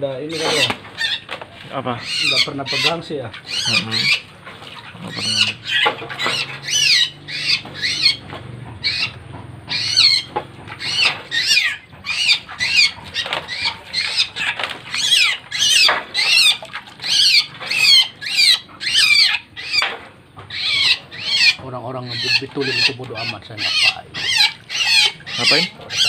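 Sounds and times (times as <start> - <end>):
birds calling harshly: 0.0 - 26.0.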